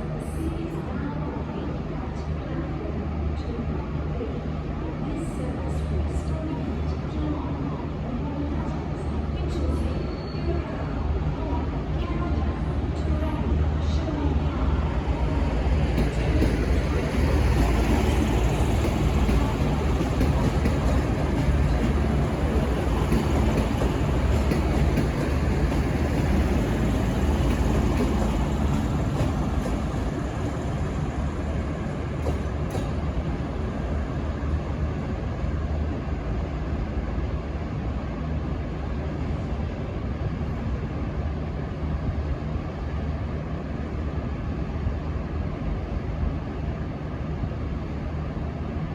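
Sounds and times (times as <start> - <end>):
rumble of rolling train: 0.0 - 48.9.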